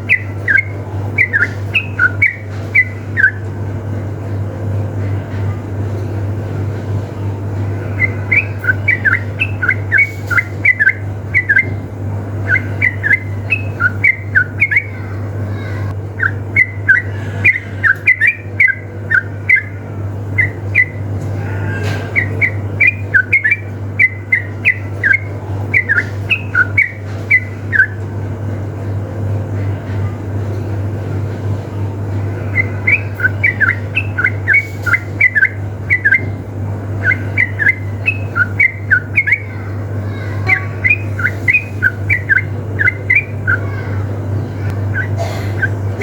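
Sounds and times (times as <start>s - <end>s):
bulbuls singing: 0.0s - 46.0s
steady low hum: 0.0s - 46.0s.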